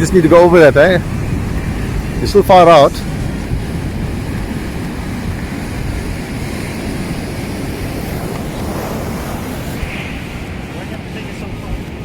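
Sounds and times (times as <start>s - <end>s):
ocean surf breaking: 0.0s - 12.0s
wind on microphone: 0.0s - 12.0s.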